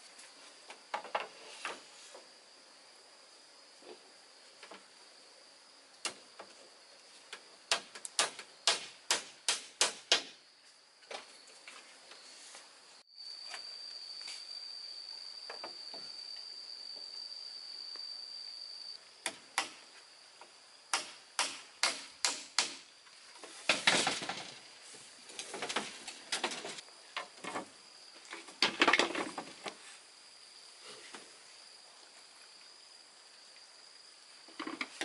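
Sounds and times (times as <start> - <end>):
high insect trill: 0.0 - 35.0.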